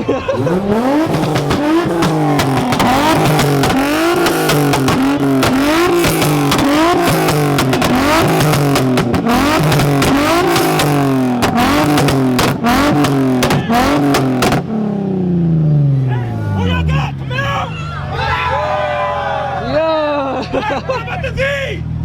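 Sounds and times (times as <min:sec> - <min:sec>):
exhaust popping bangs: 0:00.0 - 0:19.7
car engine revving: 0:00.0 - 0:21.1.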